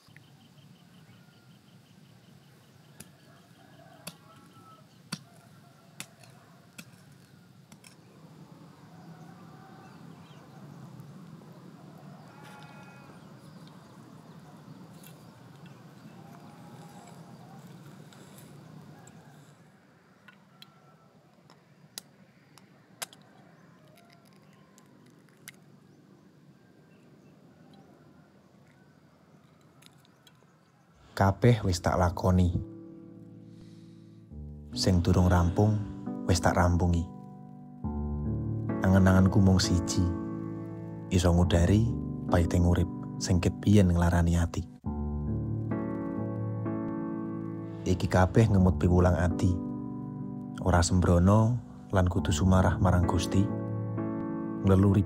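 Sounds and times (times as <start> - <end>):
faint outdoor background: 0.0 - 55.0.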